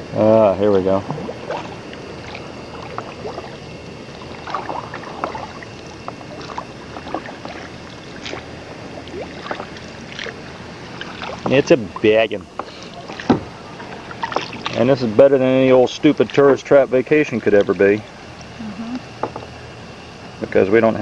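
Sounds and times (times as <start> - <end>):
water splashing around kayak: 1.0 - 18.0.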